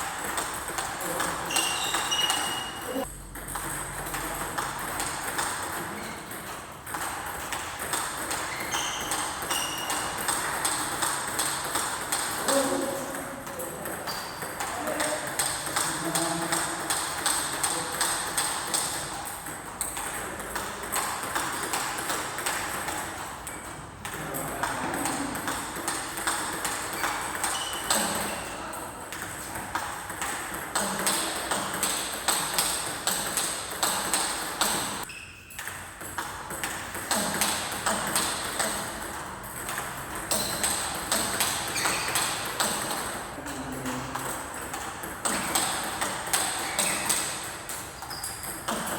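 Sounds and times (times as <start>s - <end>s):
ping-pong balls clicking: 0.0s - 48.9s.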